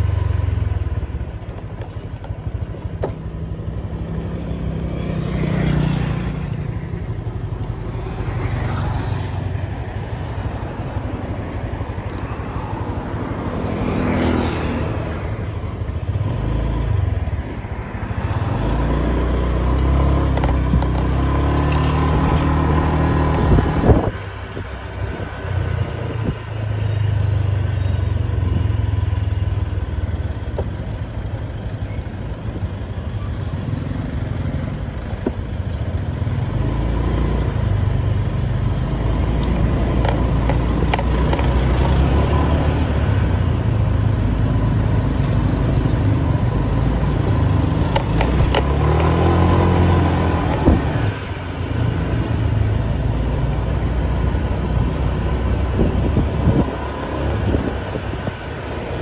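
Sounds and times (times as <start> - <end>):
motor vehicle engines running: 0.0 - 59.0.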